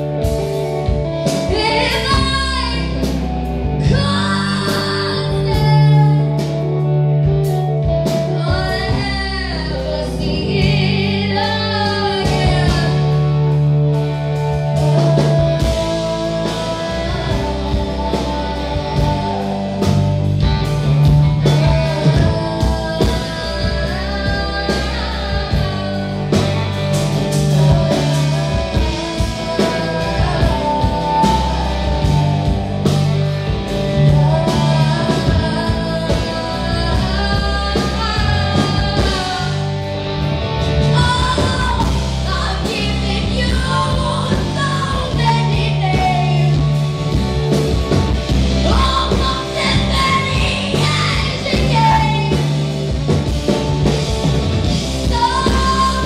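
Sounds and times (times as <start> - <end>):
drums: 0.0 - 56.0
electric guitars: 0.0 - 56.0
woman singing: 0.2 - 13.6, 14.6 - 39.8, 40.8 - 46.8, 47.8 - 52.6, 54.7 - 56.0.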